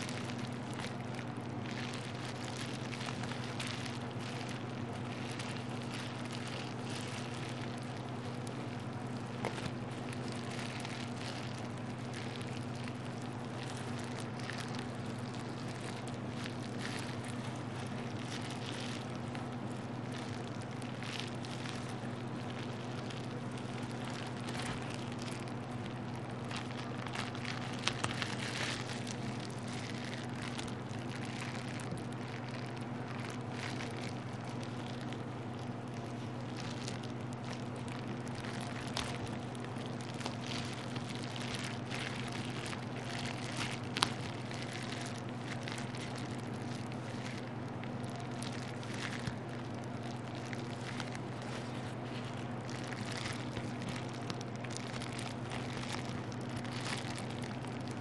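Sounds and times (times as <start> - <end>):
bubble wrap crinkling: 0.0 - 58.0
steady low hum: 0.0 - 58.0.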